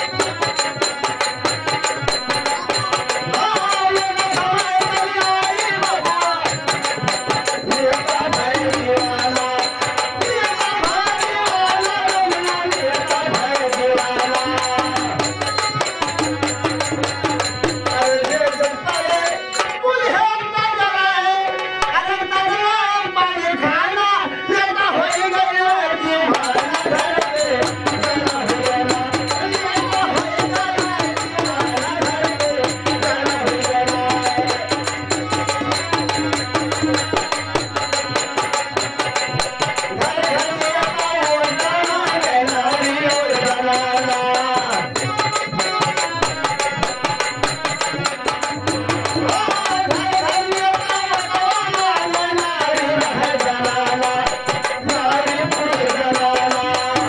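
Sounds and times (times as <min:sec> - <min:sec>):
fast dholak drum rhythm: 0:00.0 - 0:57.0
harmonium melody: 0:00.0 - 0:57.0
man singing: 0:00.0 - 0:57.0.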